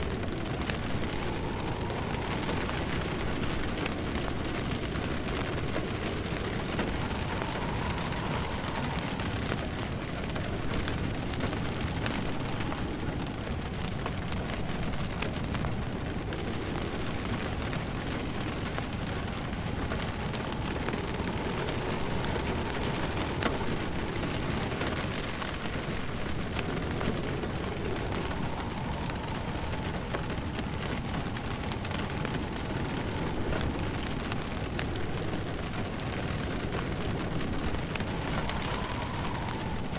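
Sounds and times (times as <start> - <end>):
soft low sound: 0.0 - 13.2, 19.0 - 39.9
steady rain: 0.0 - 39.9
wood fire crackling: 0.0 - 39.9.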